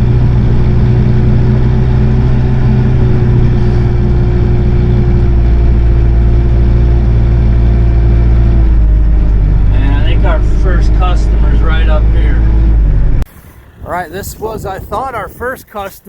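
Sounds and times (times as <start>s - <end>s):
vehicle engine droning: 0.0s - 15.2s.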